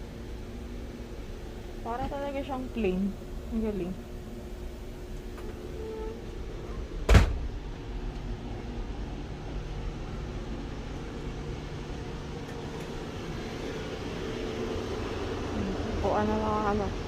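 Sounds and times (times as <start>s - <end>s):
train cabin hum: 0.0s - 17.0s.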